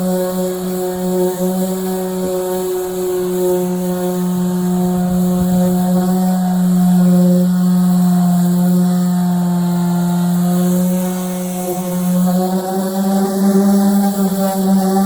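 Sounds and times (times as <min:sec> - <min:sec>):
electric sander running: 0:00.0 - 0:15.0.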